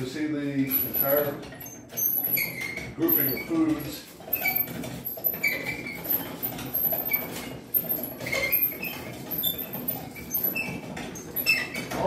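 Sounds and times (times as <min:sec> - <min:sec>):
pulley hoist squeaks and clicks: 0:00.0 - 0:12.0.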